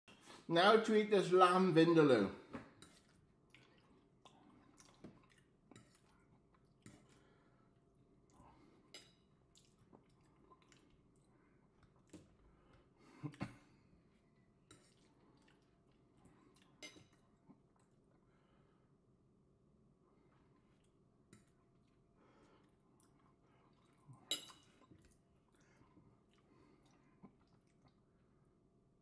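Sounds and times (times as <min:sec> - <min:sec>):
man chewing wetly: 0:02.9 - 0:18.2, 0:20.4 - 0:28.4.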